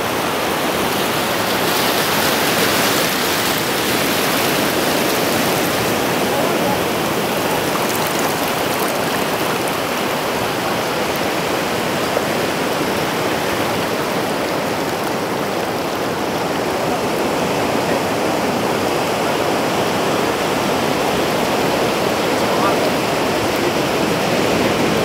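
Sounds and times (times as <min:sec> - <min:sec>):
water rushing over sand: 0:00.0 - 0:25.0.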